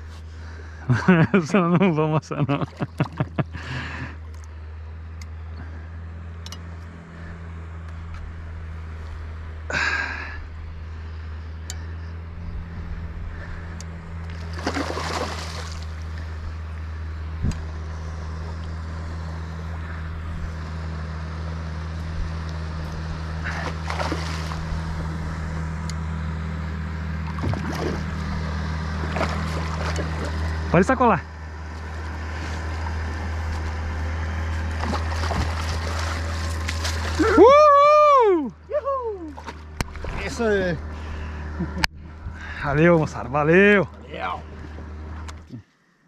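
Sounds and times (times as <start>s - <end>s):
outboard motor idling: 0.0s - 45.9s.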